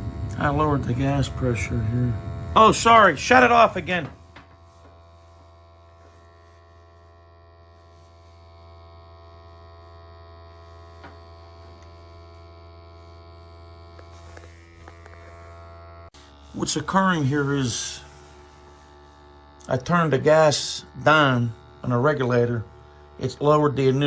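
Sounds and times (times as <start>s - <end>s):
boiler room equipment hum: 0.0s - 24.0s.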